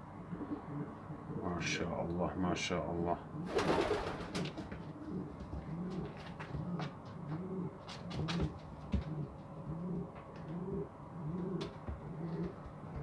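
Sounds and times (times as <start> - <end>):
pigeons cooing: 0.0 - 1.8, 3.2 - 13.0.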